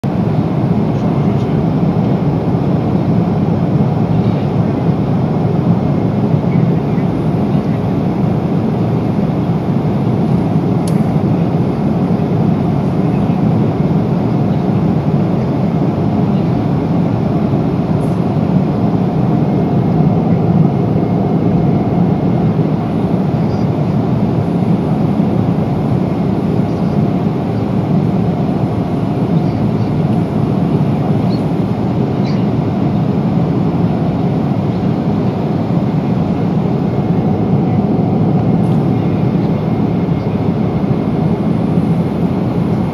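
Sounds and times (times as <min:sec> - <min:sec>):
airliner cabin engine roar: 0:00.0 - 0:42.9.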